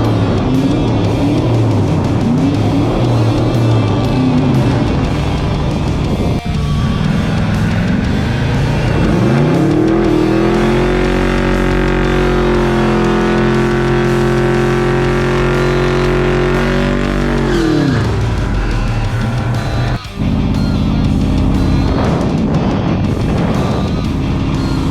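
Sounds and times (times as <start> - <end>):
car engine revving: 0.0 - 24.9
rock music with guitar: 0.0 - 24.9.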